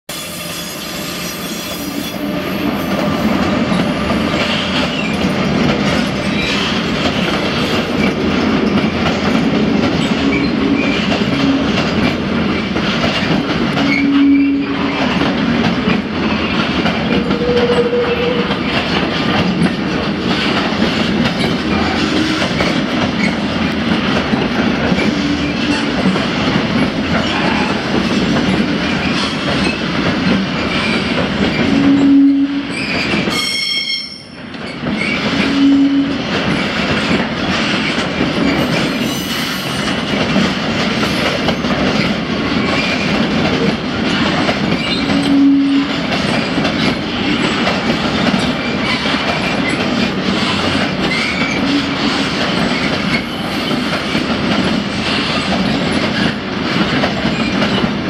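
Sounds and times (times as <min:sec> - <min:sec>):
train wheels rumbling on rails: 0:00.2 - 0:58.0.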